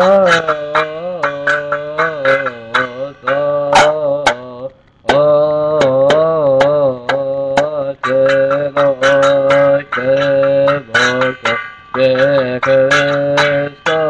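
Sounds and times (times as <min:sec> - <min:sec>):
man singing slow melody: 0:00.0 - 0:14.0.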